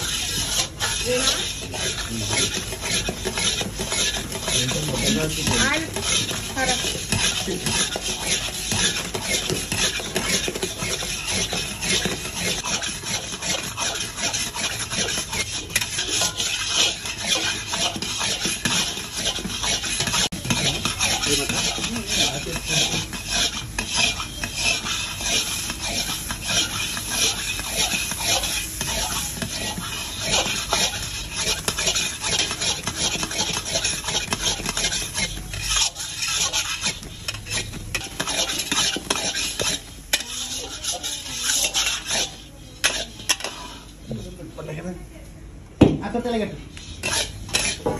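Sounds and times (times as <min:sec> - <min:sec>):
metal spatula scraping a pan: 0:00.0 - 0:44.8, 0:46.2 - 0:47.9.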